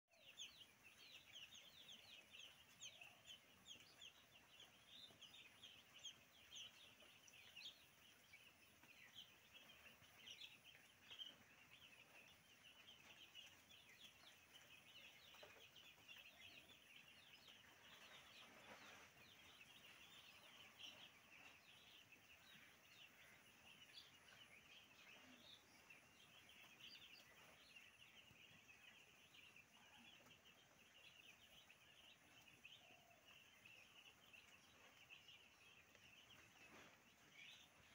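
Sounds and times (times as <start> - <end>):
chicks peeping: 0.1 - 37.9.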